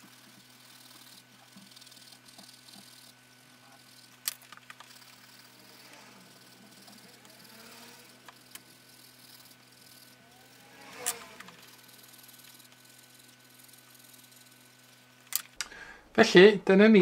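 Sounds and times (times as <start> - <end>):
pencil scratching on paper: 0.0 - 4.1, 4.9 - 15.0.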